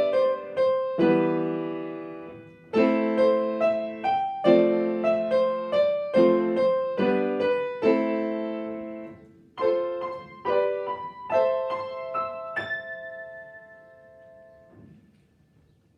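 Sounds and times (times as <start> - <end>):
slow gentle piano melody: 0.0 - 15.9.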